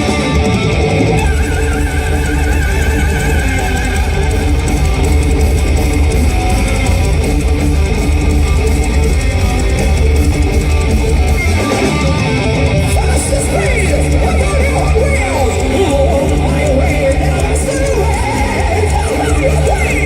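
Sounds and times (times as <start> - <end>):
bass guitar: 0.0 - 20.0
distorted electric guitars: 0.0 - 20.0
drums: 0.0 - 20.0.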